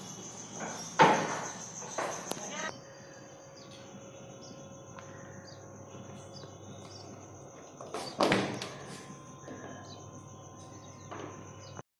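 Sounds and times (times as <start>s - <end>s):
crickets trilling: 0.0s - 11.8s
faint bird chirps: 0.0s - 11.8s.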